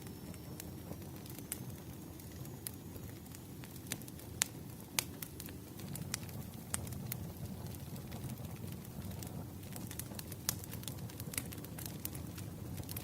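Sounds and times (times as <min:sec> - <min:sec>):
fire popping: 0:00.0 - 0:13.0
flames rumbling: 0:00.0 - 0:13.0.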